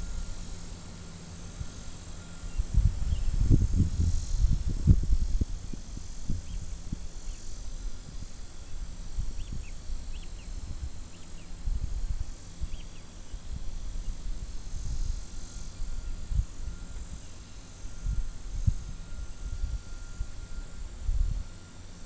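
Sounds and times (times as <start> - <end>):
insect drone: 0.0 - 22.0
wind rumble on microphone: 1.5 - 22.0.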